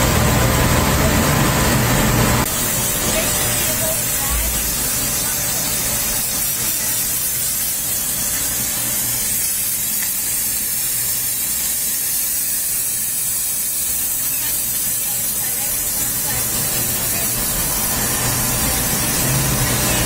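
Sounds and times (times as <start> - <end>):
steam cleaner hissing: 0.0 - 20.0.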